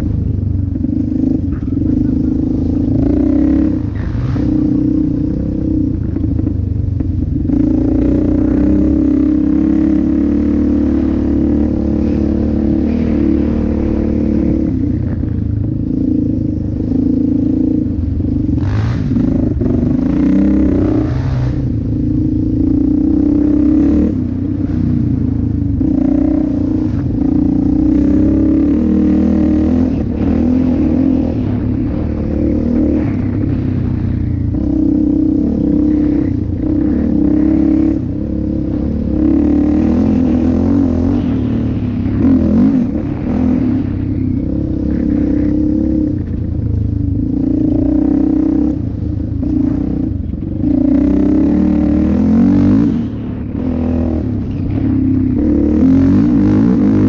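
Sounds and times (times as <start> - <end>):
atv engine running under throttle: 0.0 - 57.0.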